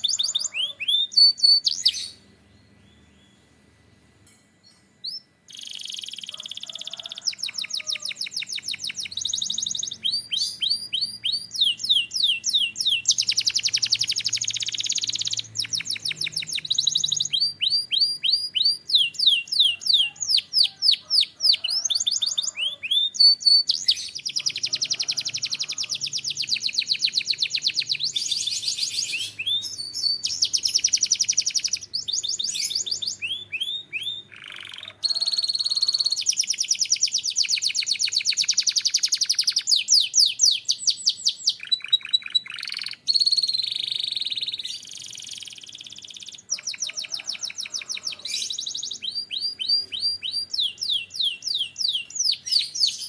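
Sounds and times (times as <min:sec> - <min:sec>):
canary singing trills: 0:00.0 - 0:03.6, 0:04.7 - 0:53.0.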